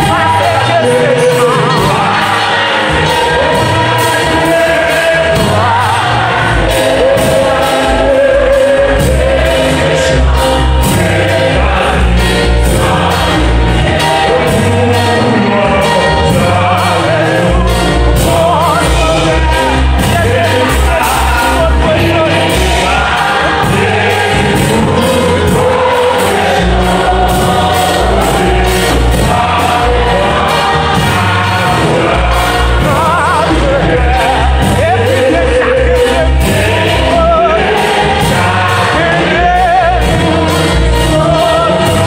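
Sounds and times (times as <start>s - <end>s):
amplified keyboard accompaniment: 0.0s - 42.0s
congregation singing a hymn: 0.0s - 42.0s.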